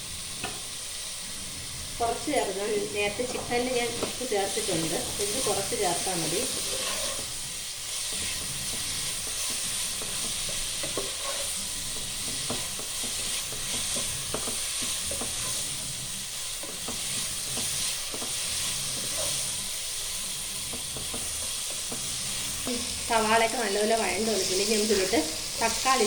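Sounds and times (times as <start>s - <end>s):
onions sizzling in oil: 0.0s - 26.0s
spoon scraping a pan: 1.7s - 26.0s.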